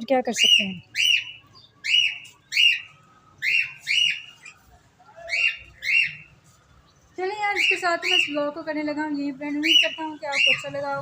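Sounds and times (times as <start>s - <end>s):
high-pitched bird calls: 0.0s - 11.0s.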